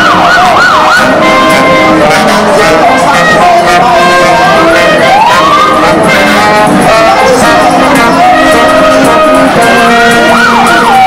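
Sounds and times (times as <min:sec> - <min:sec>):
brass band playing: 0:00.0 - 0:11.0
sliding brass tone: 0:00.0 - 0:11.0.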